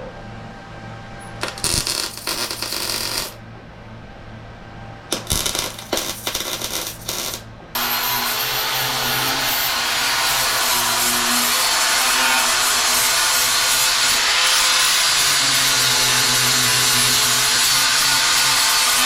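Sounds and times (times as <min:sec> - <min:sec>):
power tool running: 0:01.4 - 0:03.4, 0:05.1 - 0:19.0.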